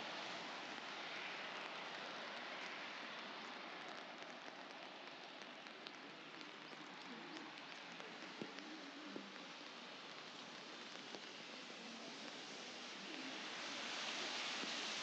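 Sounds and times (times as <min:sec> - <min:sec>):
light rain on pavement: 0:00.0 - 0:15.0
raindrop ticks: 0:00.0 - 0:15.0.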